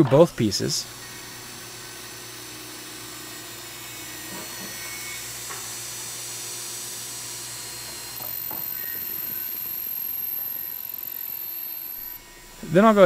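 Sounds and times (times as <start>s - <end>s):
cordless drill boring wood: 0.0s - 13.0s.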